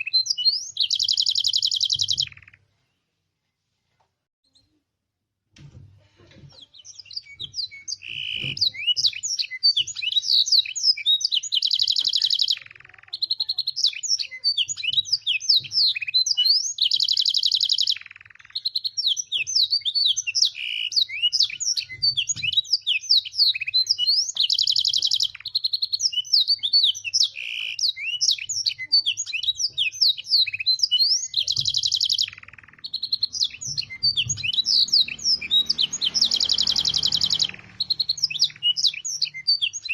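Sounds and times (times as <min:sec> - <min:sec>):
canary singing: 0:00.0 - 0:02.7, 0:06.5 - 0:39.9.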